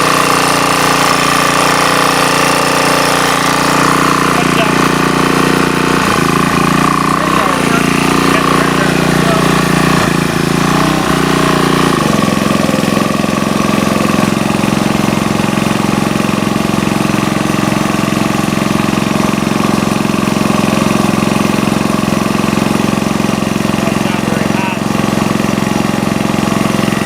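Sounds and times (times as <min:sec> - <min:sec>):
generator engine running: 0:00.0 - 0:27.0.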